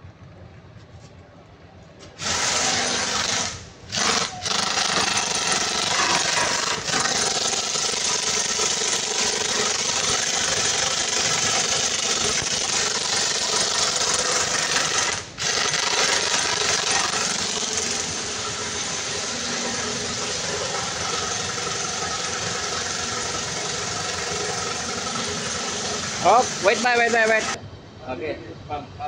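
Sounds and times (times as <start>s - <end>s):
pump running loudly: 2.2s - 27.6s.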